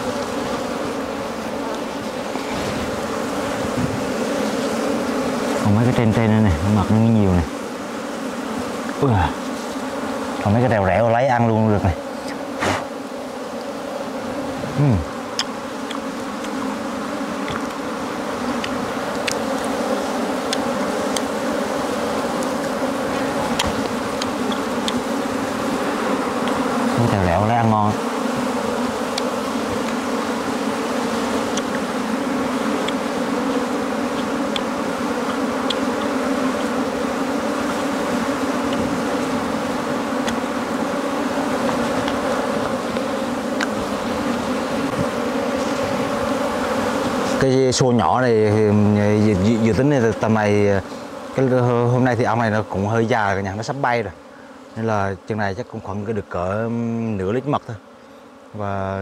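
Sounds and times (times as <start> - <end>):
bee buzzing past close: 0.0 - 59.0
bees buzzing: 0.0 - 59.0.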